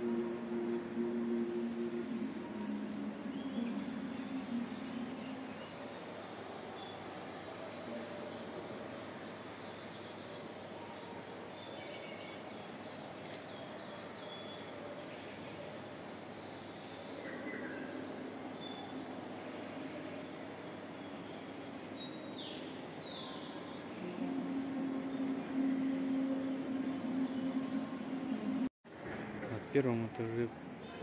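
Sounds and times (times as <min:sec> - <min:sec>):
steady background hum: 0:00.0 - 0:28.7.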